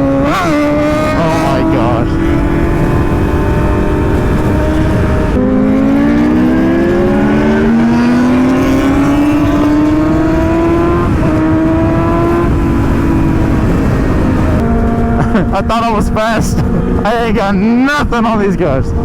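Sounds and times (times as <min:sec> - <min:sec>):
motorcycle engine accelerating: 0:00.0 - 0:19.0
wind and road noise: 0:00.0 - 0:19.0.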